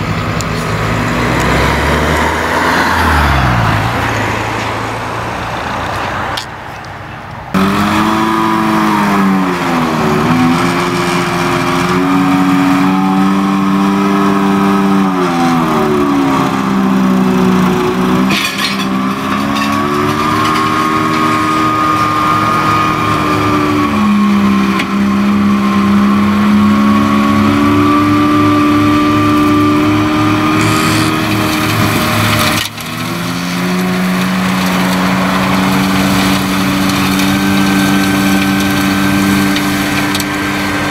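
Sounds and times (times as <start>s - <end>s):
tractor engine under load: 0.0s - 40.9s.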